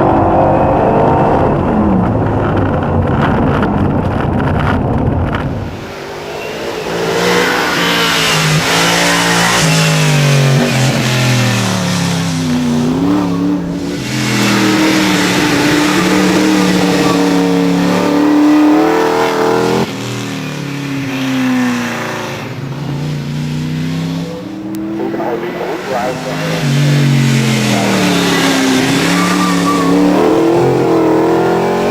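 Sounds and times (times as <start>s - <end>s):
race car accelerating: 0.0s - 31.9s.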